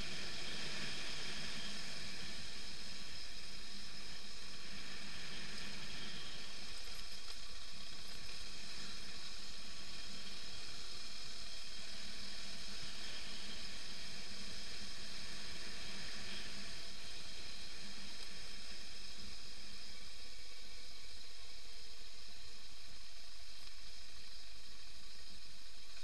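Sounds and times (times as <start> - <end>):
motorcycle riding on dirt road: 0.0 - 26.0.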